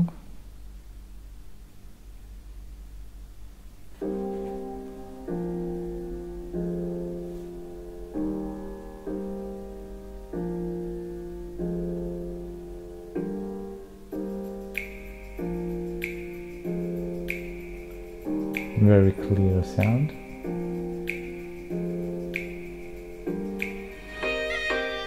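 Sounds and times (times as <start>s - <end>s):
steady low hum: 0.0s - 24.8s
piano chords over speakers: 3.0s - 25.0s.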